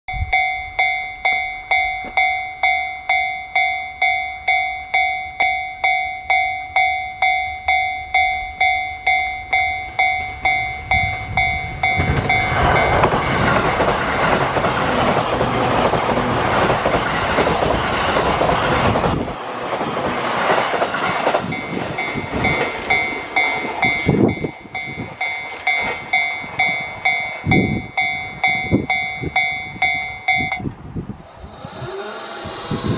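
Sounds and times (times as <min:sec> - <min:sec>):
level crossing warning bell: 0:00.1 - 0:19.3, 0:21.2 - 0:30.8
train passing: 0:00.2 - 0:32.9.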